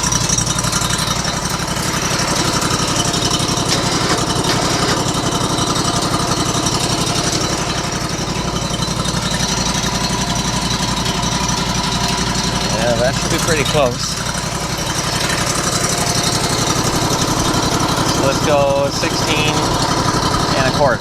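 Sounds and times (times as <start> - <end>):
gasoline engine idling: 0.0 - 21.0.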